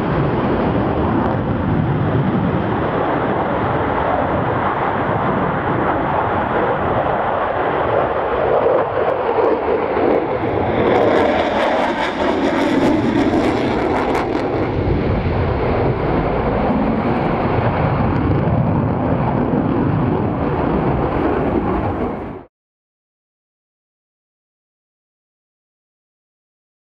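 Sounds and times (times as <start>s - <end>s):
jet engine roar: 0.0s - 22.5s
afterburner crackling: 0.1s - 22.4s.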